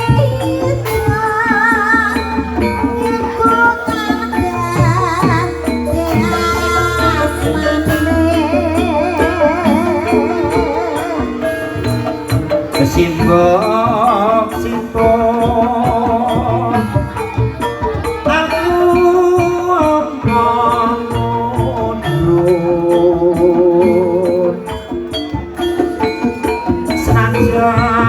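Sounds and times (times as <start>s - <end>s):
sustained pitched instrument tones: 0.0s - 24.6s, 26.6s - 28.0s
drum strokes: 0.0s - 28.0s.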